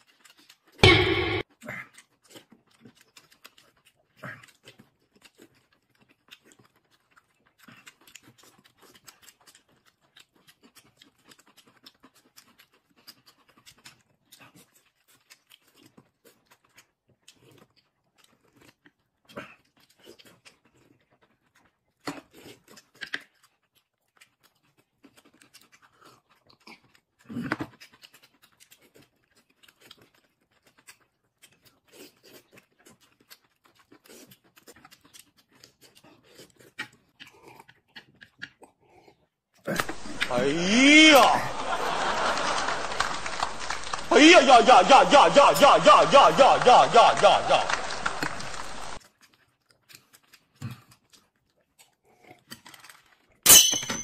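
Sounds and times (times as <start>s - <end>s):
soft chewing and lip smacking: 0.0s - 0.8s, 1.5s - 40.3s, 48.7s - 53.4s.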